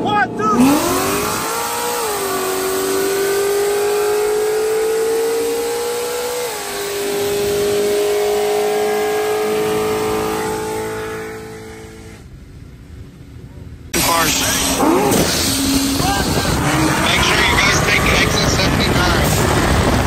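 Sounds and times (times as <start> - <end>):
car engine accelerating hard: 0.0 - 12.4, 14.0 - 20.0.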